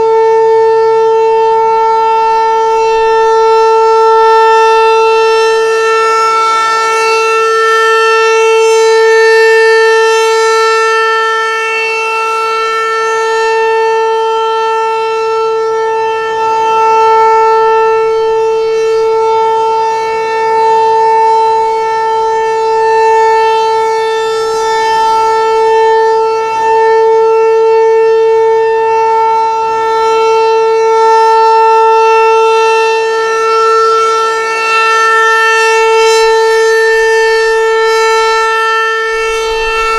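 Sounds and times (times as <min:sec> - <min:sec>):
steady warning siren tone: 0:00.0 - 0:39.9.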